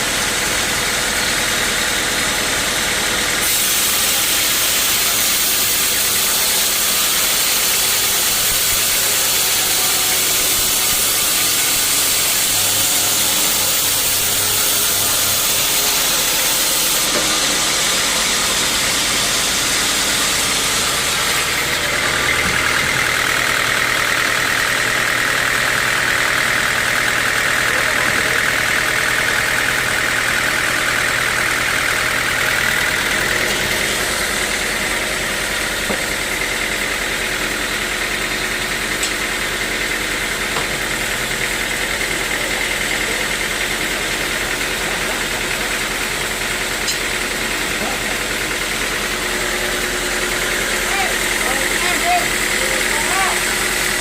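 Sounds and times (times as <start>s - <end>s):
sawmill saw whirring: 0.0s - 54.0s.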